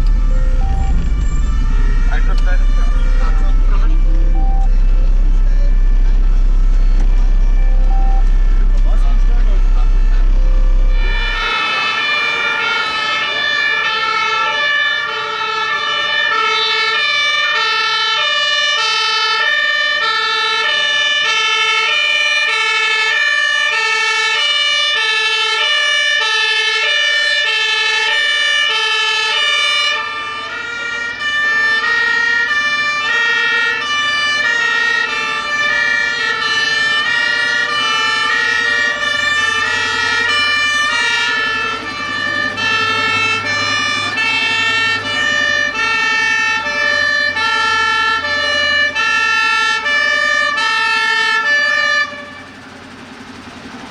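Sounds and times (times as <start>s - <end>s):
fire engine two-tone siren: 0.0s - 53.9s.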